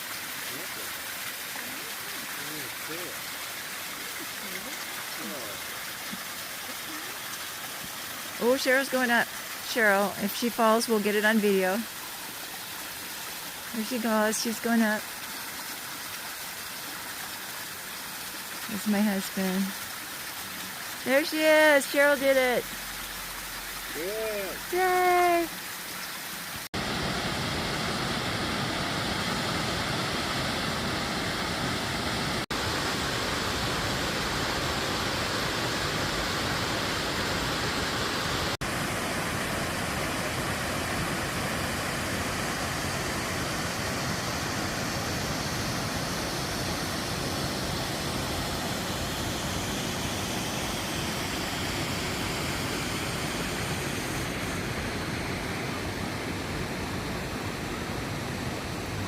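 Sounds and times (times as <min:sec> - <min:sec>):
waterfall roaring: 0:00.0 - 0:11.6, 0:21.0 - 0:25.5, 0:26.7 - 0:59.0.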